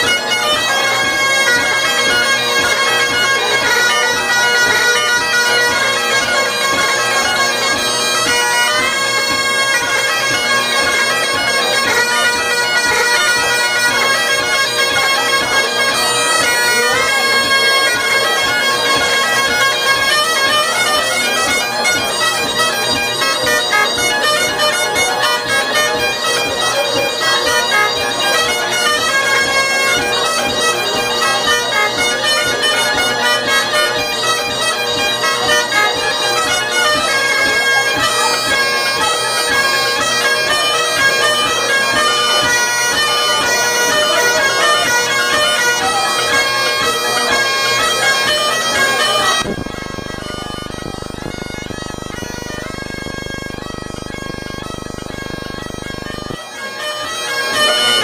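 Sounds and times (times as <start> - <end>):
bagpipe drones: 0.0 - 58.0
bagpipes playing a tune: 0.0 - 58.0.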